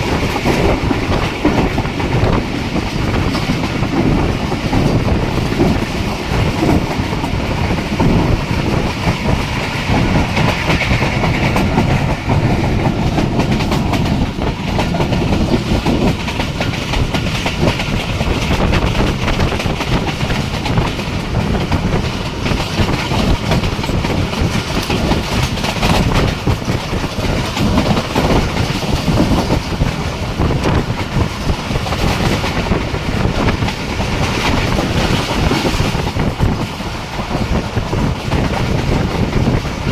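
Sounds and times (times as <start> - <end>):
train running noise: 0.0 - 39.9
train wheels clattering over rail joints: 0.0 - 39.9.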